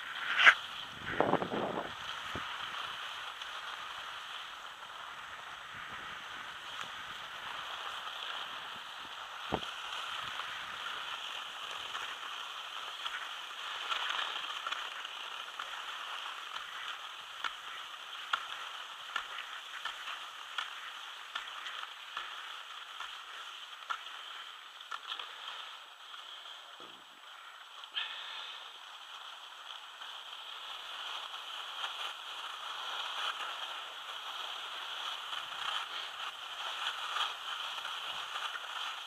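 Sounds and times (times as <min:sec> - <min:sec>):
skis sliding over snow: 0:00.0 - 0:39.0.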